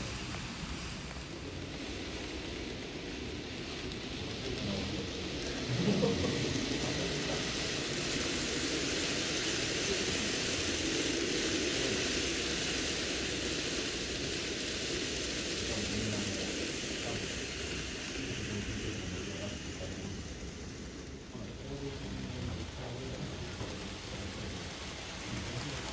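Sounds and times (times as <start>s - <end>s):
model trains rolling on track: 0.0s - 25.9s.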